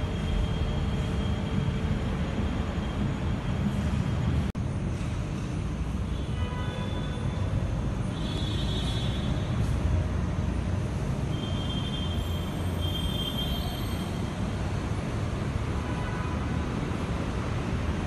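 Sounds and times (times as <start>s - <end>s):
metro station rumble: 0.0s - 18.0s.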